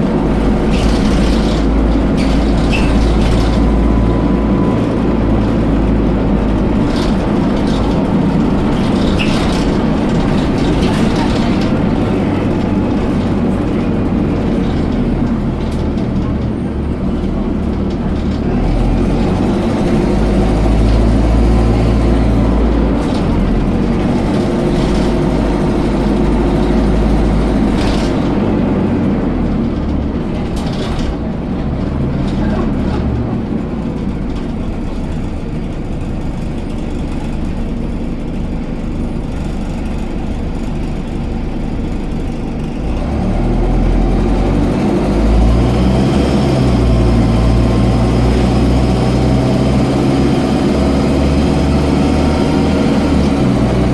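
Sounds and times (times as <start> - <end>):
bus engine rumble: 0.0 - 53.9.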